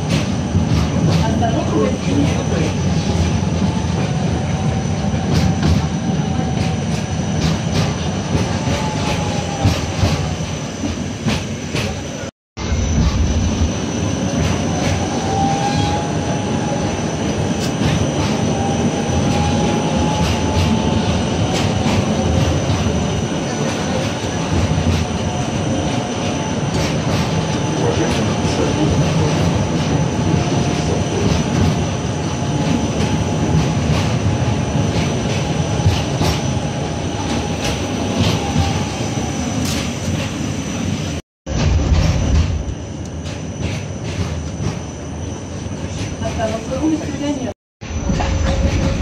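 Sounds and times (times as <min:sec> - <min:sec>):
tram wheels rumbling on track: 0:00.0 - 0:49.0.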